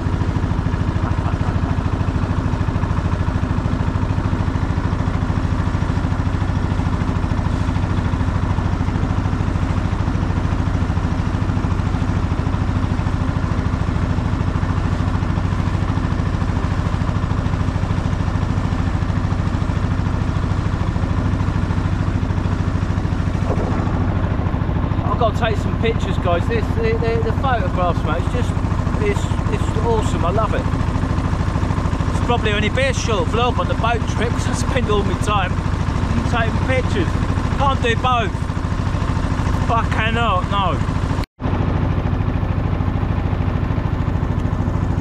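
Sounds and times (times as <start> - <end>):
boat engine chugging: 0.0 - 45.0.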